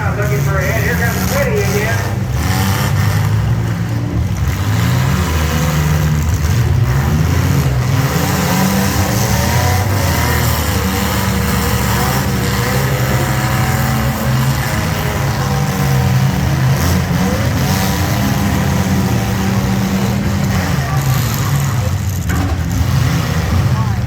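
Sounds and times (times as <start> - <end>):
engines revving: 0.0 - 24.0.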